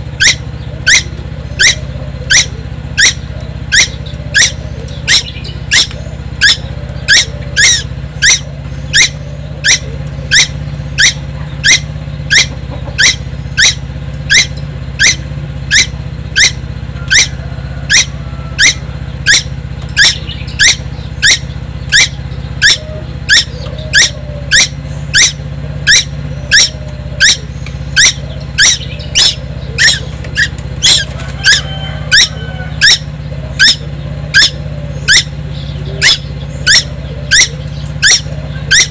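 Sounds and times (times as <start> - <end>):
songbird calling: 0.0 - 38.9
steady low hum: 0.0 - 38.9.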